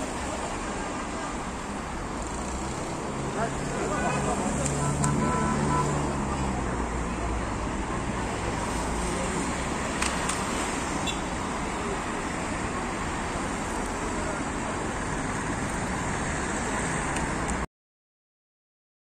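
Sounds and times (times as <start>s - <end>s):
city road traffic: 0.0s - 17.7s.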